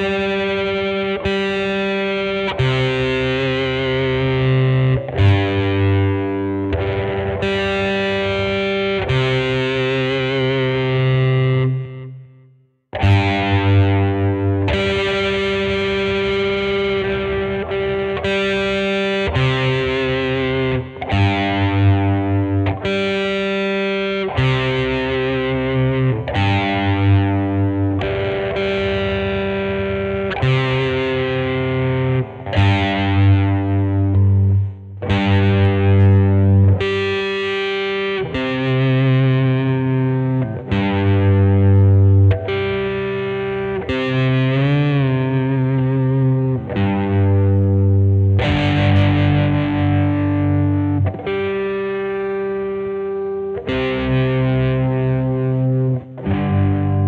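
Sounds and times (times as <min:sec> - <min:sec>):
distorted electric guitar chords: 0:00.0 - 0:57.0.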